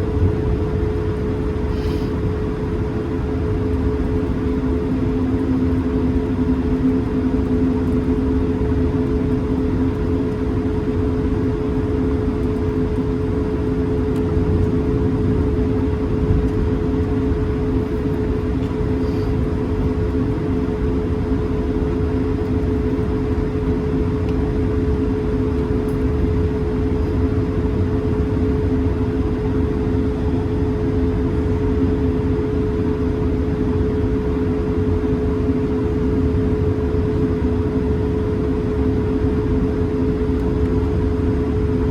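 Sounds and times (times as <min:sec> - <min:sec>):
jet engines humming in cabin: 0:00.0 - 0:41.9.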